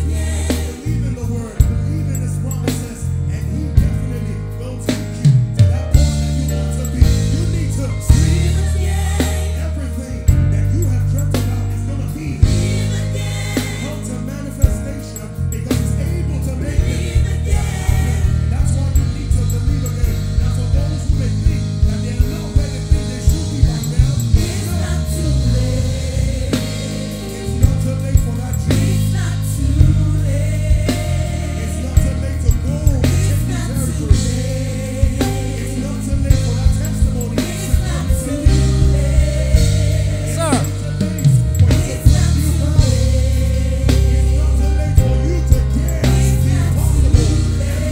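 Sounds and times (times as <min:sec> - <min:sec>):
drum kit beat: 0:00.0 - 0:47.9
electric bass guitar: 0:00.0 - 0:47.9
singing voices: 0:00.0 - 0:47.9.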